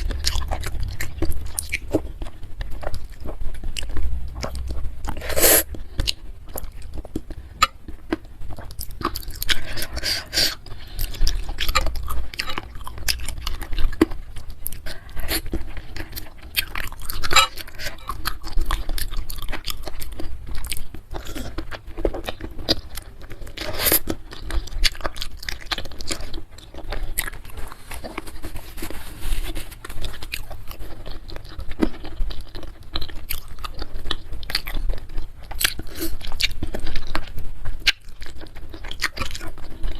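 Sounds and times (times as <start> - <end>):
close-miked chewing and crunching: 0.0 - 39.9.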